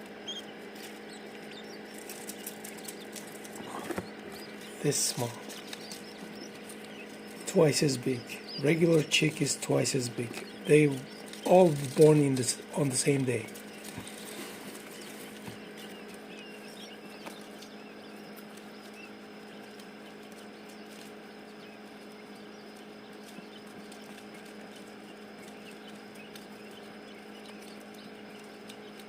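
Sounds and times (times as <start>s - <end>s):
chicks peeping faintly: 0.0s - 29.0s
steady low hum: 0.0s - 29.0s.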